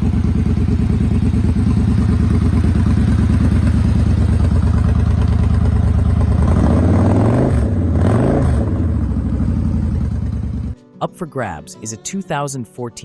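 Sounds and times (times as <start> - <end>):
motorcycle engine idling and revving: 0.0 - 10.8.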